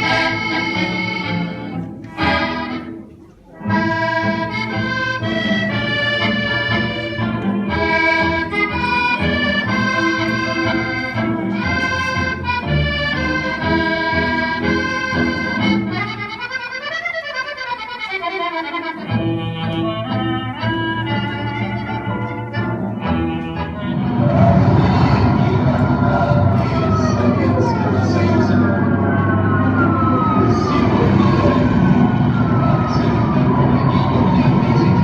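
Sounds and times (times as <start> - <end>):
accordion music: 0.0 - 35.0.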